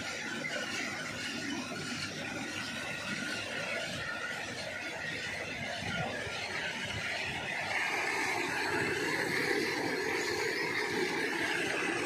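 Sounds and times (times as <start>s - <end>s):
water gushing from a pipe: 0.0s - 12.0s.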